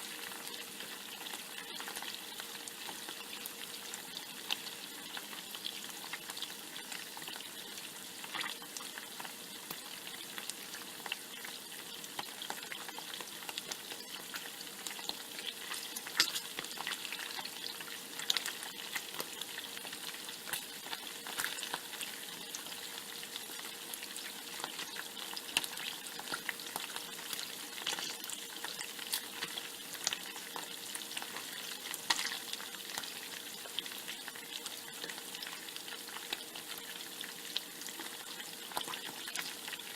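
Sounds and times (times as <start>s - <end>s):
bacon sizzling in a pan: 0.0s - 39.9s.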